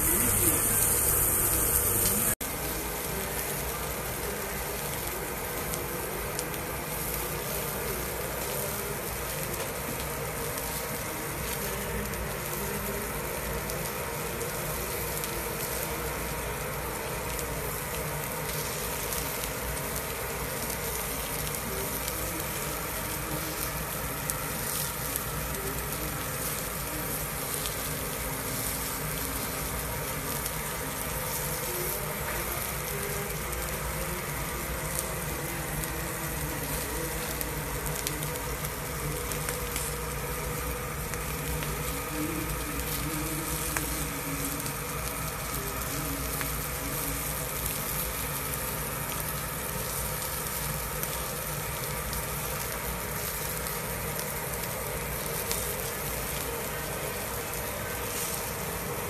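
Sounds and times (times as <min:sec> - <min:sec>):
steaks sizzling on grill: 0:00.0 - 0:59.0.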